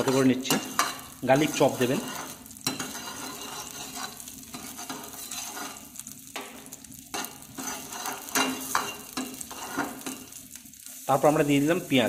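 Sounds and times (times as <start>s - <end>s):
metal ladle scraping pan: 0.0s - 6.5s, 7.1s - 10.4s
garlic sizzling in hot oil: 0.0s - 12.0s.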